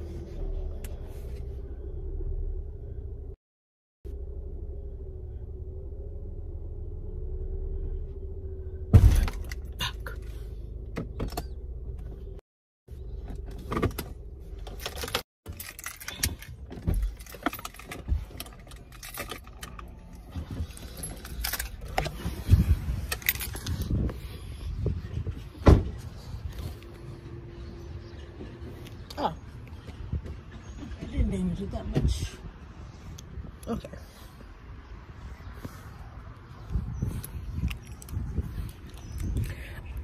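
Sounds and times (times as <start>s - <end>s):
car engine humming: 0.0s - 3.4s, 4.1s - 40.0s.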